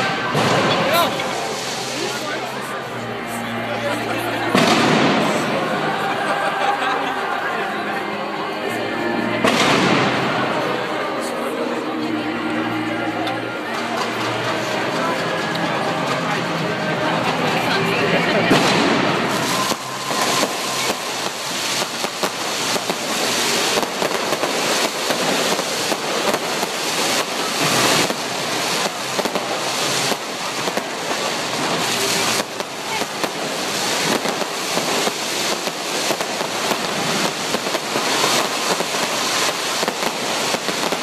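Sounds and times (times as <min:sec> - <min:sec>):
fireworks bangs and crackling: 0:00.0 - 0:02.8, 0:04.4 - 0:07.4, 0:09.3 - 0:11.4, 0:13.2 - 0:41.0.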